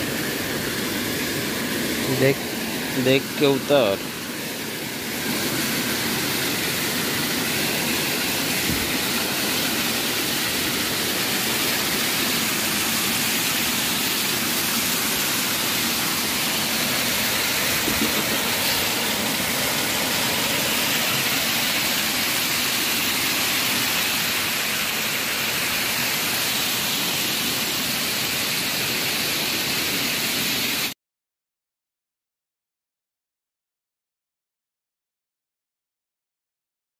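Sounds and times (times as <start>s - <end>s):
water rushing over a weir: 0.0s - 30.9s.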